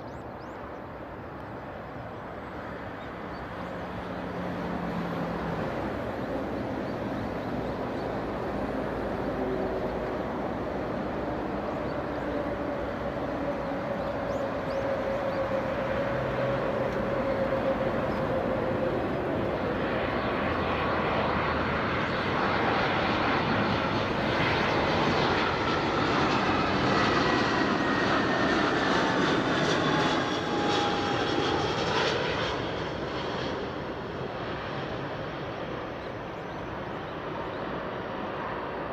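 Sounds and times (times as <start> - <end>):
jet airliner engines passing: 0.0 - 38.9.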